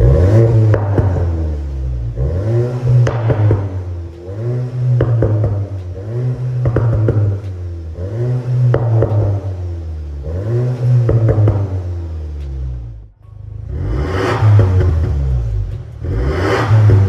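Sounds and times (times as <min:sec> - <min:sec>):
car engine revving: 0:00.0 - 0:17.0
exhaust pops and crackles: 0:00.0 - 0:17.0.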